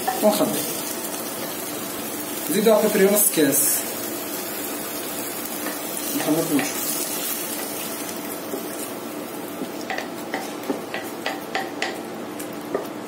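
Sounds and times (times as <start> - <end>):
steady sizzle: 0.0 - 13.0.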